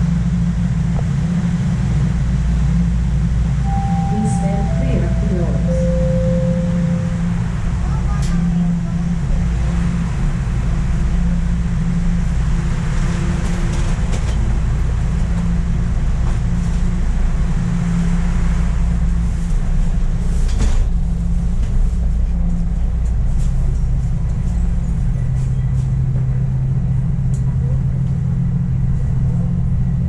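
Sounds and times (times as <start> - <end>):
subway train rumbling on rails: 0.0 - 30.0.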